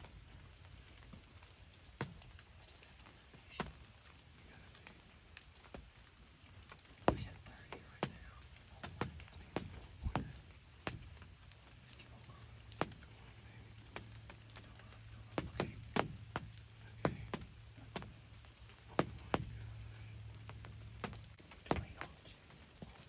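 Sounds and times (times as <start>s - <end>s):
faint low hum: 0.0s - 23.0s
water drops tapping fabric: 0.0s - 23.0s.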